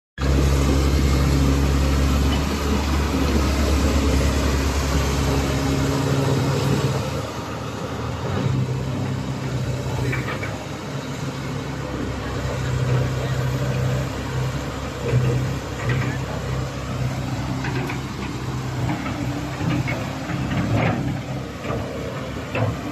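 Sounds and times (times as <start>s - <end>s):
excavator diesel engine running: 0.2s - 22.9s.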